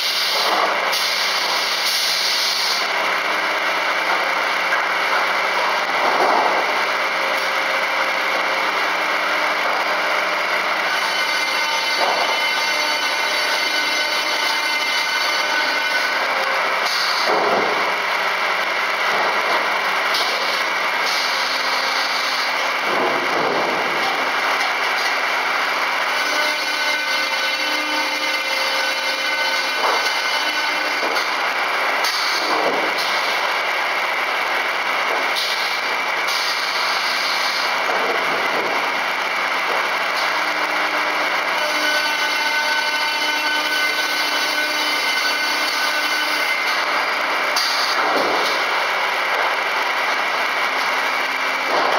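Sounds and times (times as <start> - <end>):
circular saw running: 0.0 - 51.9.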